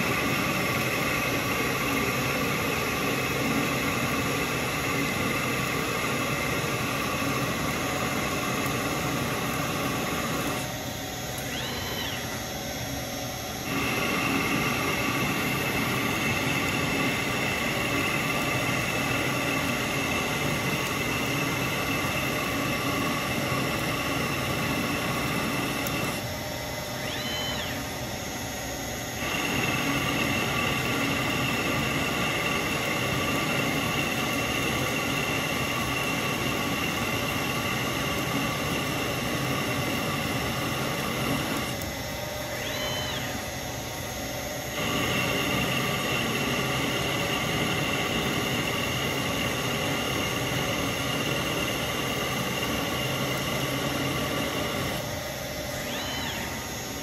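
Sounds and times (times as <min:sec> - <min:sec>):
lathe cutting metal with whine: 0:00.0 - 0:57.0.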